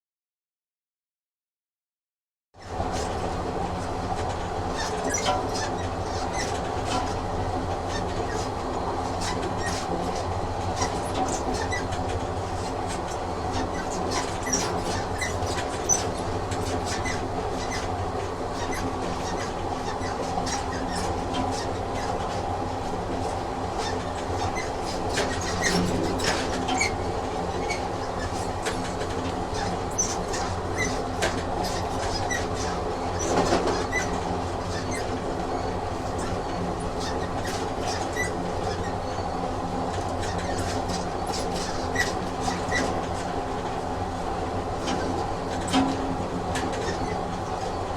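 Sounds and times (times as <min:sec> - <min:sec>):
train rumbling along rails: 0:02.6 - 0:47.9
wheels clicking over track: 0:02.9 - 0:47.9.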